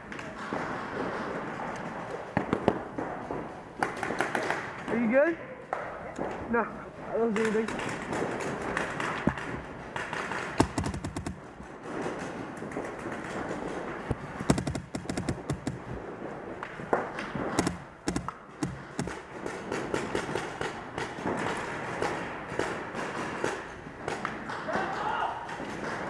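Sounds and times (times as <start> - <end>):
paintball markers firing: 0.1 - 5.1, 7.4 - 24.6.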